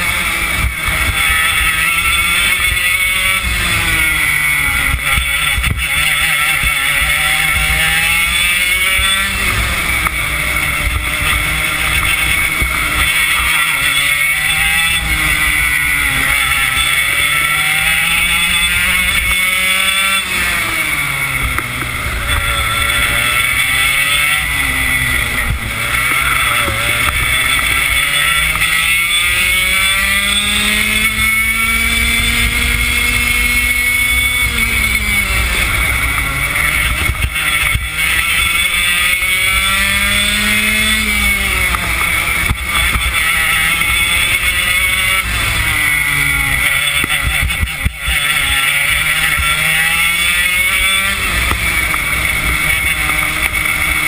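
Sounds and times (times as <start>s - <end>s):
two-stroke kart engine racing: 0.0s - 54.0s.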